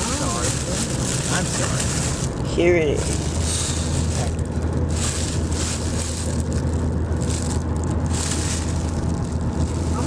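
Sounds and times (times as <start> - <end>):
car cabin road rumble: 0.0 - 10.0
packaging rustling: 0.0 - 10.0.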